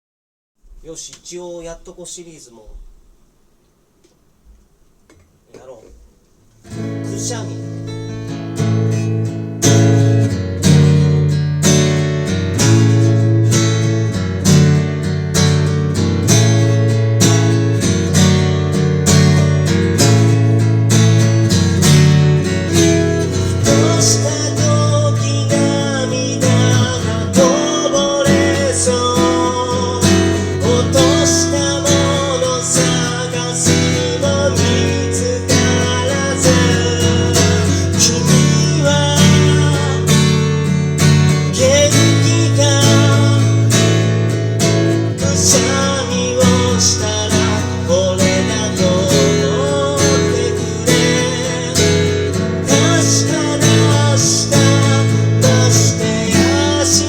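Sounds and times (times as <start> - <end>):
acoustic guitar strumming: 6.5 - 57.0.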